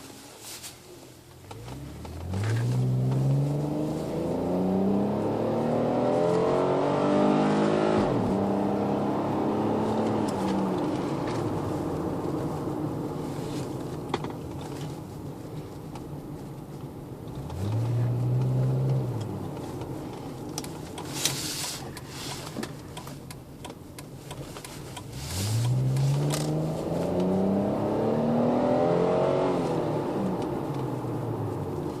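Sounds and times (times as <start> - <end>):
car engine accelerating: 1.4 - 22.8, 23.9 - 32.0.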